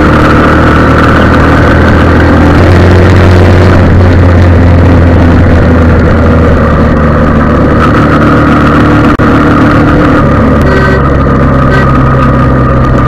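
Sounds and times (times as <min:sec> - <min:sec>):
dense rushing noise: 0:00.0 - 0:13.0
motorcycle engine running: 0:00.0 - 0:13.0.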